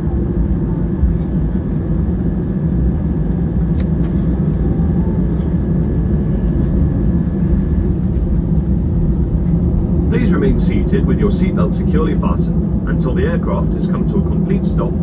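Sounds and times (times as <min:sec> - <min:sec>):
aircraft engines and wheels rumbling: 0:00.0 - 0:15.0.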